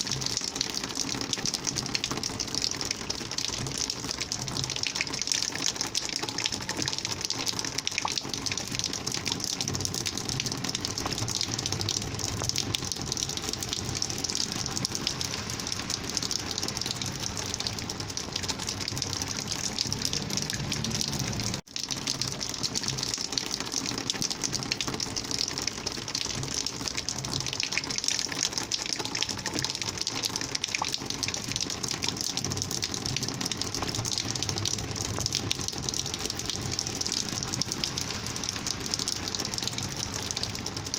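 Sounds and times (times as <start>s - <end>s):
rainwater gushing: 0.0s - 40.9s.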